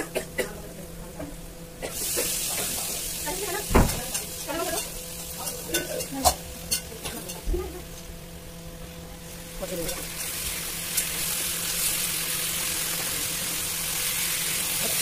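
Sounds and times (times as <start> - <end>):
vegetables sizzling in frying pan: 1.9 - 8.2, 9.2 - 15.0.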